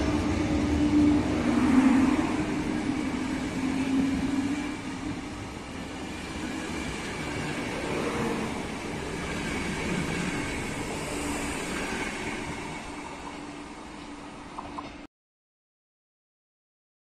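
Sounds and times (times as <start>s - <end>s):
train wheels on rails: 0.0s - 15.1s.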